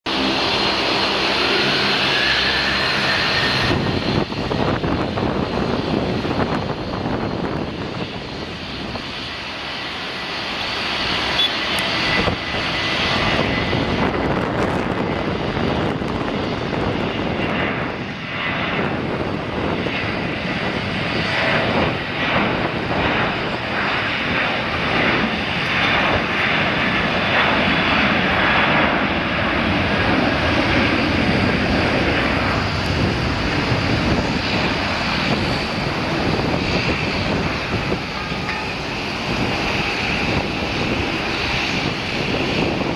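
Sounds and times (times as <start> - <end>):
jet engines roaring: 0.0 - 42.9
high engine whine: 0.1 - 42.9.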